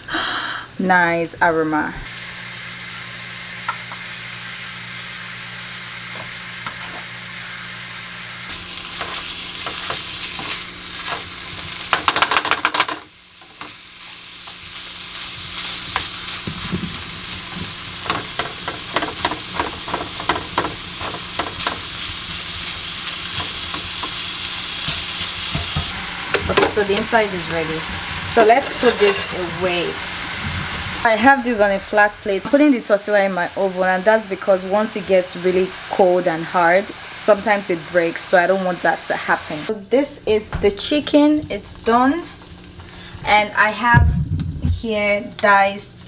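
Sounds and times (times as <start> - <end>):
chicken sizzling in a pan: 2.1 - 39.8.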